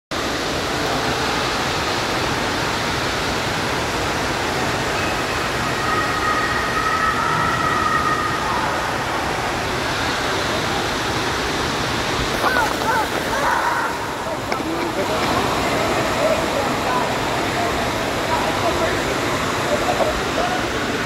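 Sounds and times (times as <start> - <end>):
water rushing and splashing: 0.1 - 21.0.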